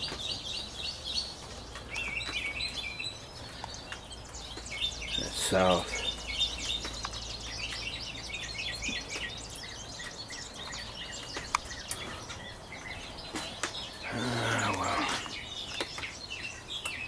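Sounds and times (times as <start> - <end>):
wild birds chirping: 0.0 - 17.0.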